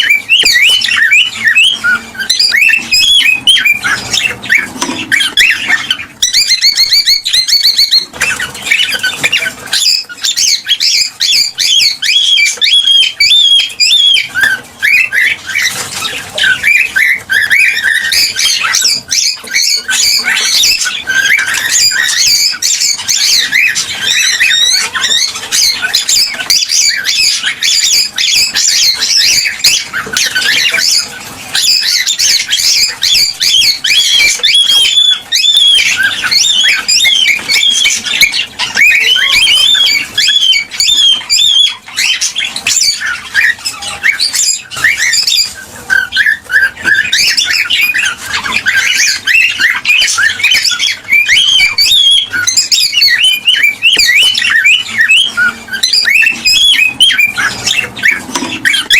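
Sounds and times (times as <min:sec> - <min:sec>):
cockatiels chirping and whistling: 0:00.0 - 0:58.9.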